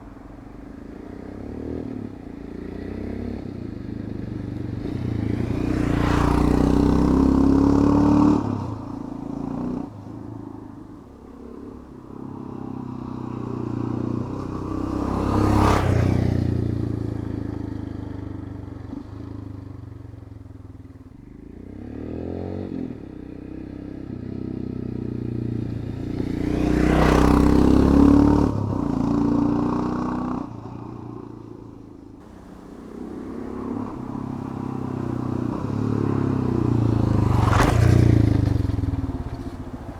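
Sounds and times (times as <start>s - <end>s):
motorcycle engine passing by: 0.0s - 39.9s.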